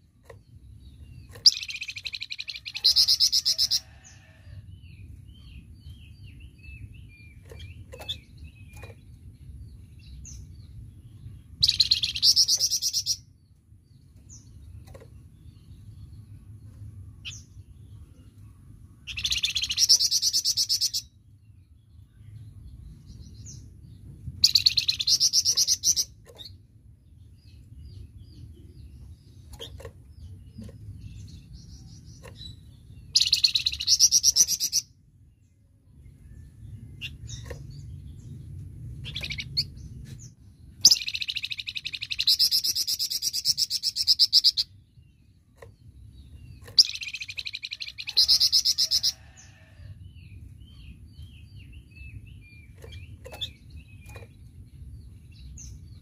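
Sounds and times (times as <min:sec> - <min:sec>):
songbird chattering song: 0:00.0 - 0:56.0
faint low rumble: 0:04.0 - 0:48.6, 0:49.2 - 0:56.0.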